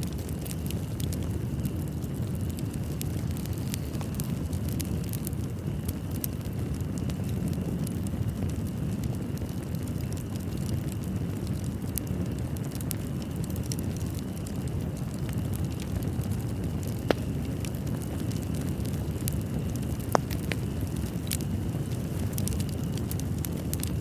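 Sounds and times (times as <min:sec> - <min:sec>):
fire crackling and popping: 0:00.0 - 0:24.0
low rumble of burning wood: 0:00.0 - 0:24.0.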